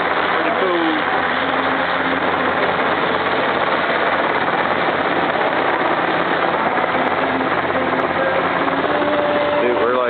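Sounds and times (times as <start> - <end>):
loud steady engine noise: 0.0 - 10.0.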